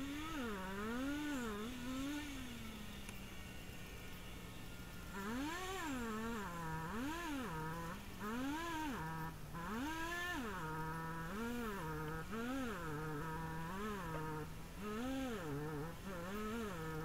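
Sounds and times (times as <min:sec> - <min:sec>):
chainsaw cutting wood: 0:00.0 - 0:03.2, 0:05.1 - 0:17.0.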